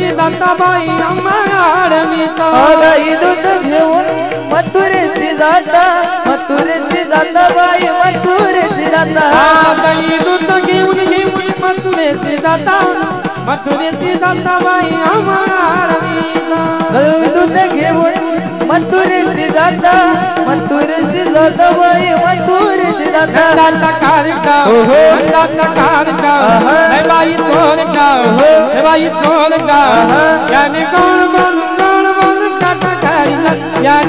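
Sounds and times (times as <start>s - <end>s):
hand drum rhythm: 0.0s - 34.0s
man singing devotional song: 0.0s - 34.0s.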